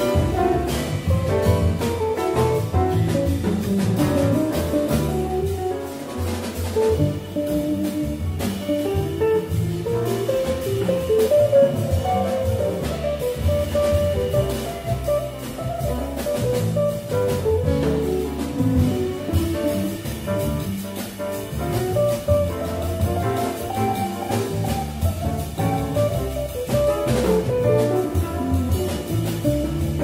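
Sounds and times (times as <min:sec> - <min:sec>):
double bass: 0:00.0 - 0:30.0
drum kit cymbal strokes: 0:00.0 - 0:30.0
piano: 0:00.0 - 0:30.0.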